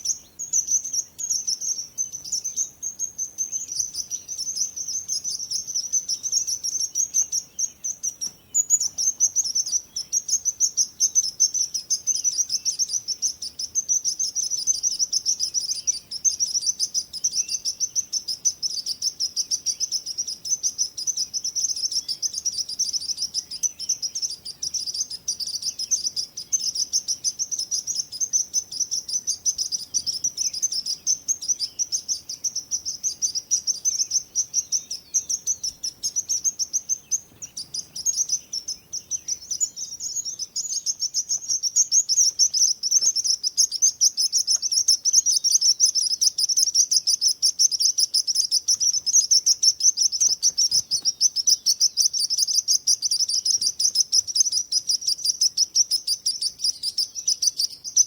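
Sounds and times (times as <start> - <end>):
songbirds chirping rapidly: 0.0 - 58.0.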